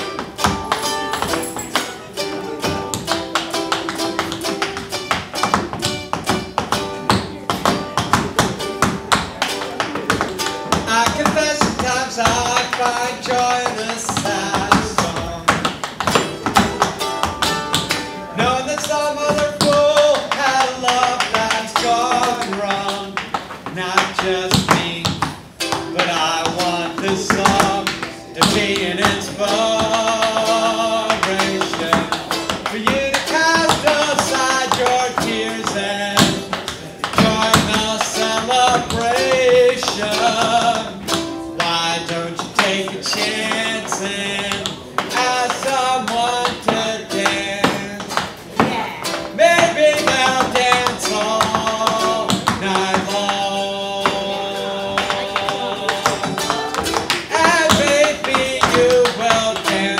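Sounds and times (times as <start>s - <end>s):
guitar-backed song: 0.0s - 59.9s
tap shoes clicking on floor: 0.0s - 59.9s.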